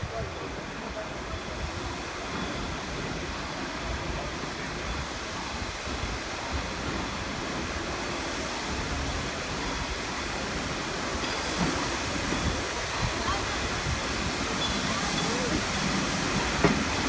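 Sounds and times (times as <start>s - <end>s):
train rushing noise: 0.0s - 17.0s.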